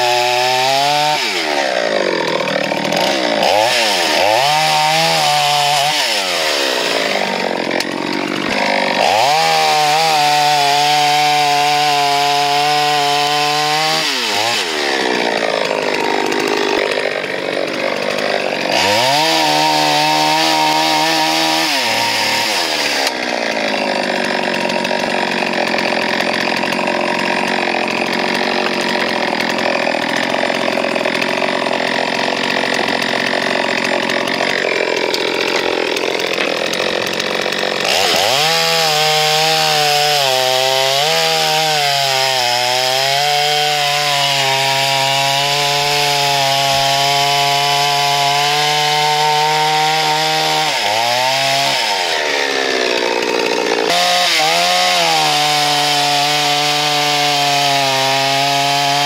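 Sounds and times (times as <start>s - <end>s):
chainsaw cutting logs: 0.0s - 59.0s.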